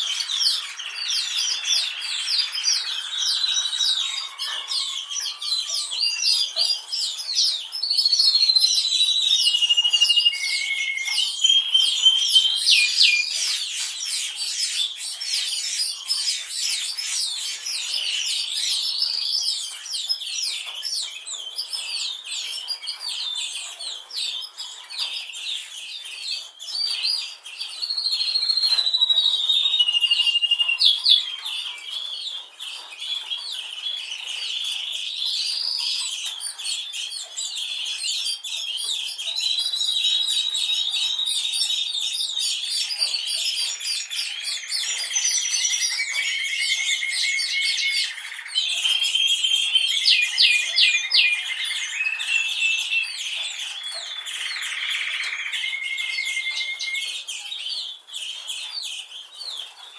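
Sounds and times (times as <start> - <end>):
canaries singing: 0.0 - 59.9.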